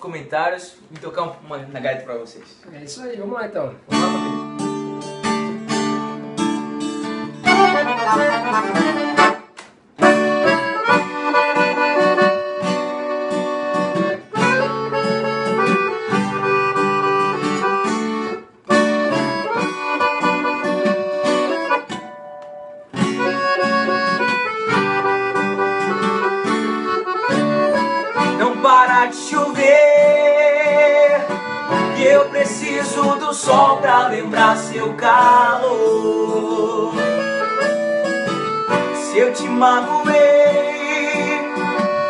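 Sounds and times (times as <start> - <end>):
acoustic guitar strumming: 3.9 - 42.0
accordion playing: 6.8 - 42.0.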